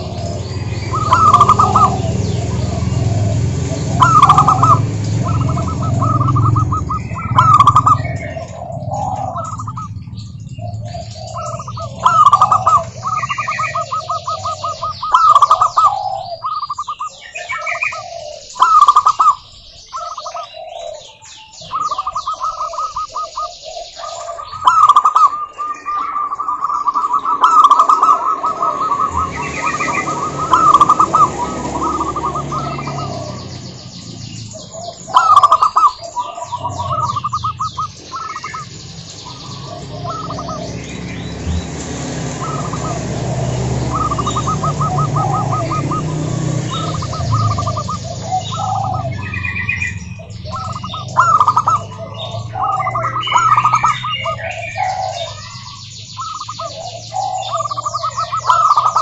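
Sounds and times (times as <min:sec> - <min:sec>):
doves cooing: 0:00.0 - 0:59.0
small birds chirping: 0:00.0 - 0:59.0.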